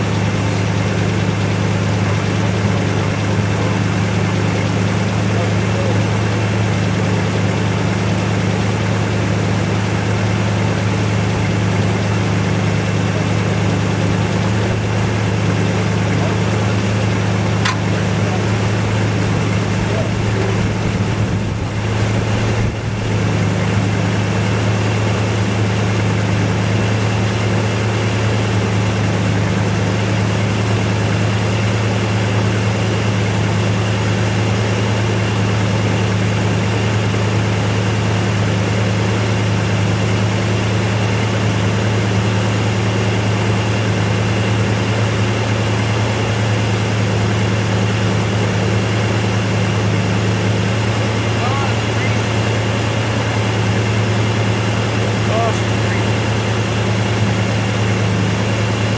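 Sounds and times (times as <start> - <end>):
engine idling: 0.0 - 58.9.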